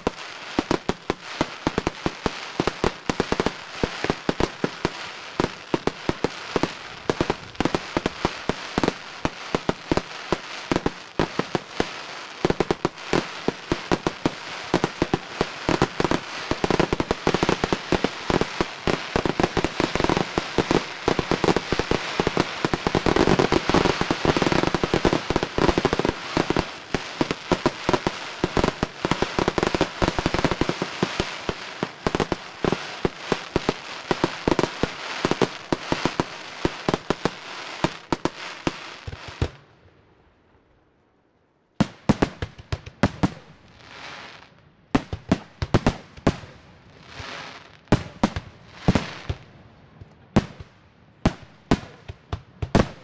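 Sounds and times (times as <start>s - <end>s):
fireworks crackling: 0.0s - 39.6s, 41.8s - 53.0s.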